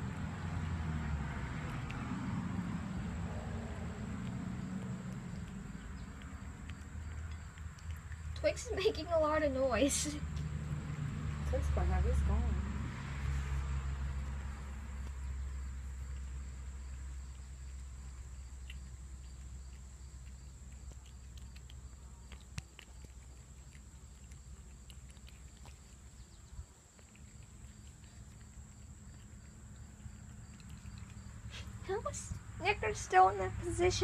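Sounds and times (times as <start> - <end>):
cat chewing wet food: 0.0 - 9.2, 12.9 - 32.6.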